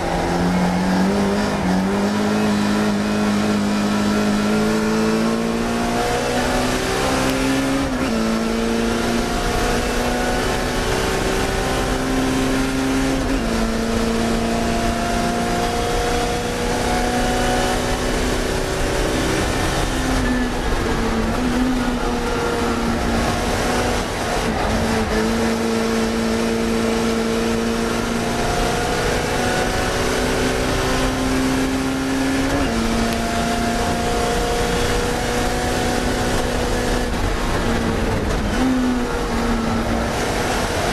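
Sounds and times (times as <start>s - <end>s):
race car engine revving: 0.0s - 40.9s
wind and road noise: 0.0s - 40.9s.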